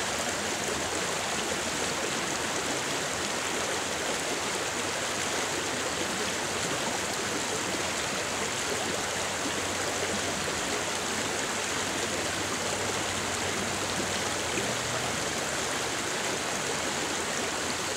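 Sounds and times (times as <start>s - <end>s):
creek water flowing: 0.0s - 17.9s.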